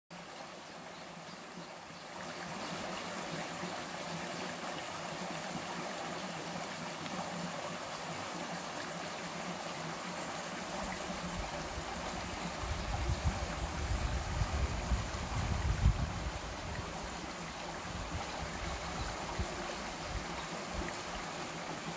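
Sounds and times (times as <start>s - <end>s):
stream rushing over stones: 0.1s - 21.9s.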